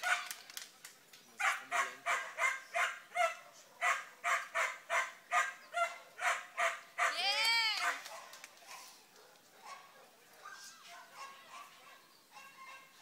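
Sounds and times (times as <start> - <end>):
dog barking: 0.0 - 0.3, 1.4 - 7.2, 7.8 - 13.0.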